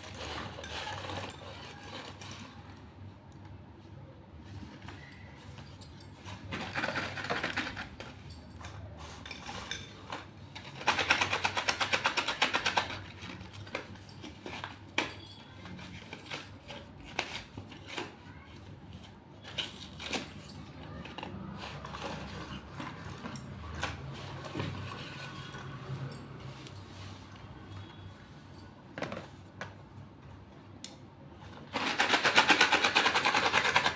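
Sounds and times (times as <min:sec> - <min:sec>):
slate pencils clicking and crunching: 0:00.0 - 0:03.1, 0:04.7 - 0:26.8, 0:31.7 - 0:33.9.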